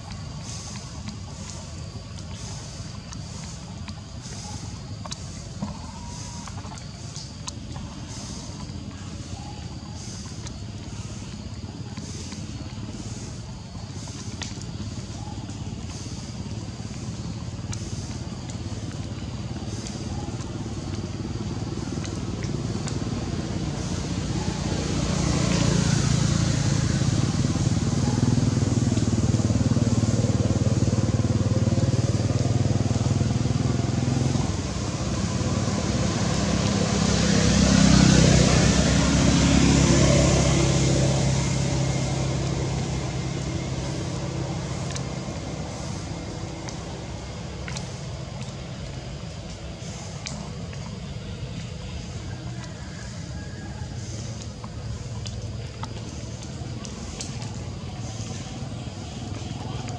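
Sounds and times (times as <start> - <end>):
vehicle engine passing by: 0.0 - 59.9.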